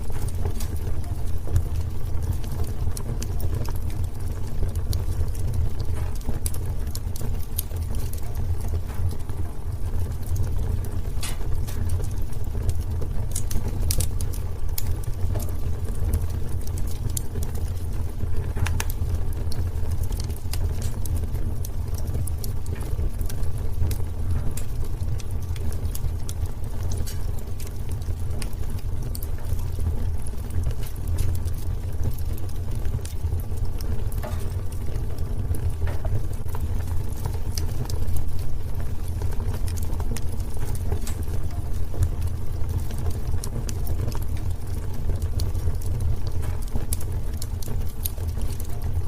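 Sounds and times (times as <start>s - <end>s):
low rumble of burning fire: 0.0s - 49.0s
wood fire crackling: 0.0s - 49.0s.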